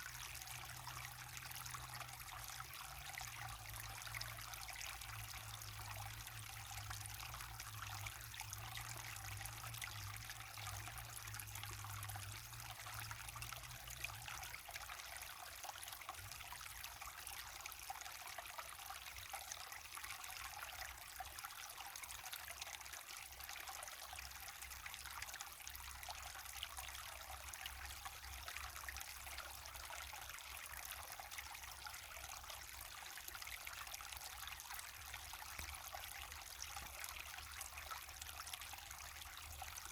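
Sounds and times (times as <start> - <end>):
waterfall and stream running: 0.0 - 39.9.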